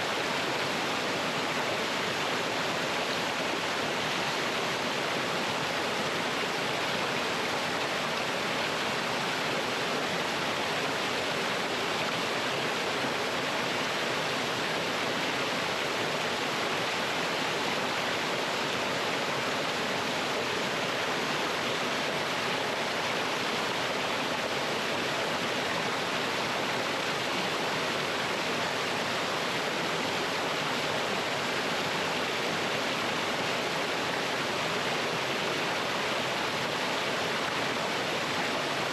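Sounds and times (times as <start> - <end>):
stream pouring over rocks: 0.0 - 38.9.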